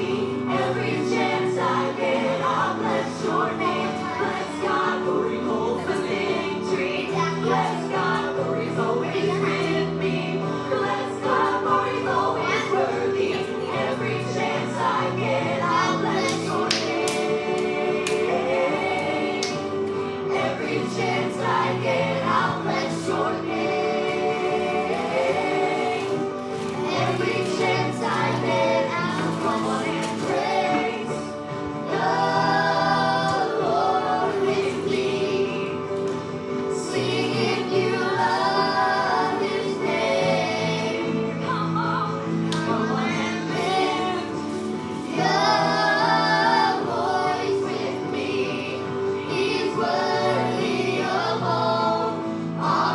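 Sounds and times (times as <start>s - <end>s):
group singing a hymn: 0.0s - 52.9s.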